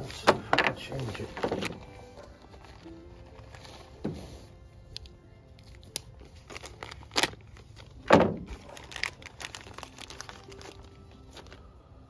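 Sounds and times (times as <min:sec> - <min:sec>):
plastic bag crinkling: 0:00.0 - 0:04.1, 0:05.6 - 0:11.7.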